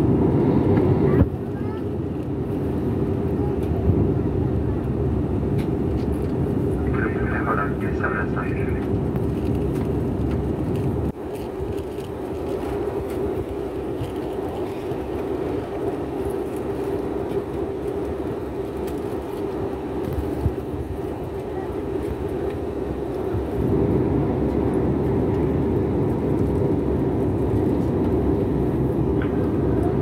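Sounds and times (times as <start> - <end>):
jet airliner cabin roar: 0.0 - 30.0.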